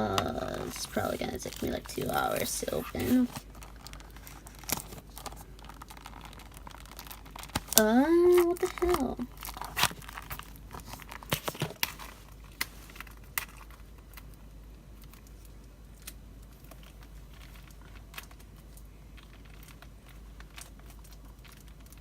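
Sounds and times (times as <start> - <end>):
packaging crinkling with clicks: 0.0 - 22.0.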